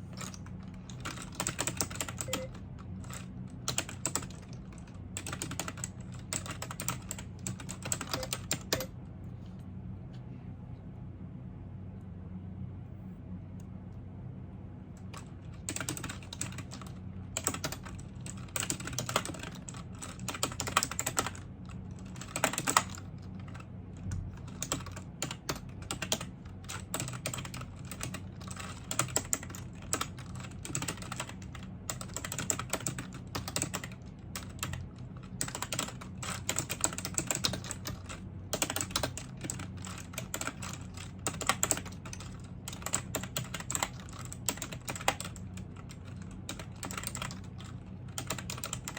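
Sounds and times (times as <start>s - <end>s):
faint low hum: 0.0s - 48.9s
typing on computer keyboard: 0.1s - 8.9s, 15.1s - 48.9s.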